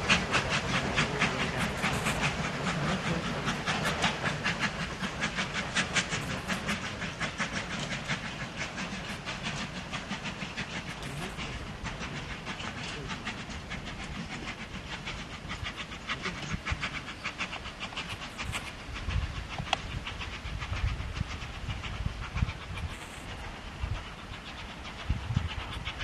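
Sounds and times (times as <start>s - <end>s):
steam train rhythmic beat: 0.0s - 26.0s.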